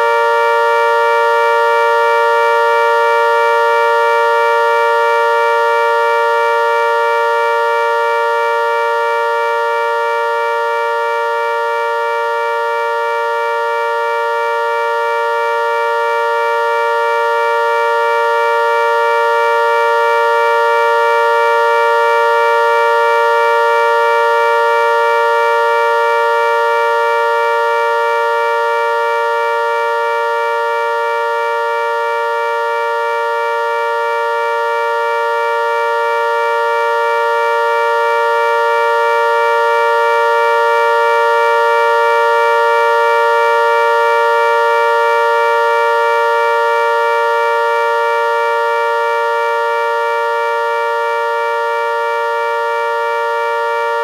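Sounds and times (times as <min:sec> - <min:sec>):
civil defense siren: 0:00.0 - 0:54.0.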